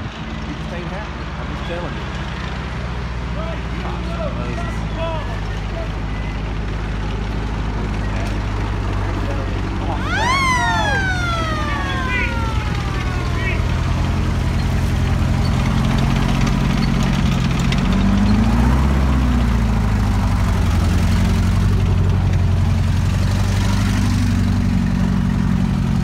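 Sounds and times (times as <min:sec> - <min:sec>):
tank engine droning: 0:00.0 - 0:26.0.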